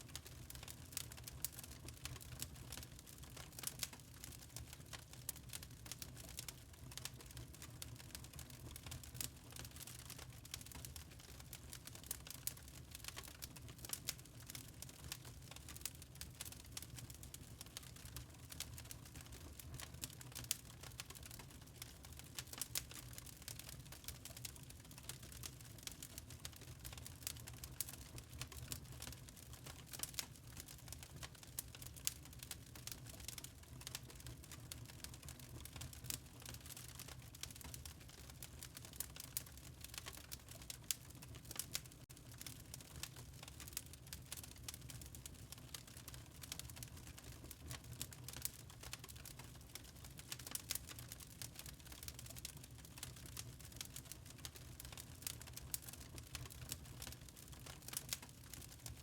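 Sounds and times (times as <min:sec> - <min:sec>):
low rumble of burning: 0:00.0 - 0:59.0
wood fire crackling: 0:00.0 - 0:59.0.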